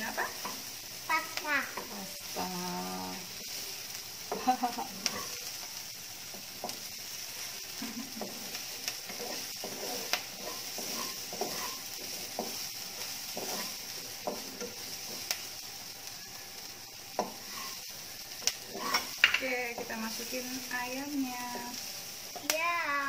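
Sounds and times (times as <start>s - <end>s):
onion and garlic sizzling in pan: 0.0s - 23.0s
spatula stirring and scraping: 1.7s - 5.6s, 6.2s - 15.7s, 17.2s - 22.4s.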